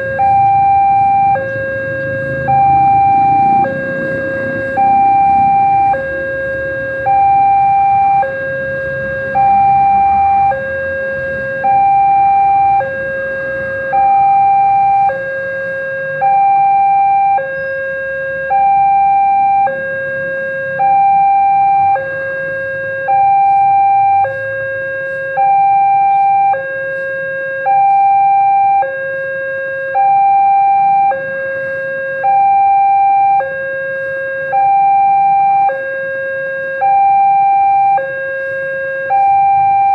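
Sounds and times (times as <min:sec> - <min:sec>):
two-tone crossing warning alarm: 0:00.0 - 0:39.9.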